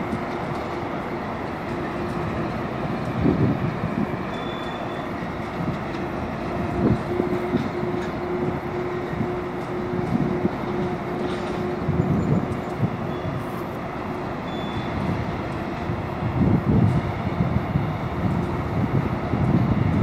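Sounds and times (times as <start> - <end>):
heavy clunks of train cars: 0.0 - 20.0
steel wheels rumbling on rails: 0.0 - 20.0.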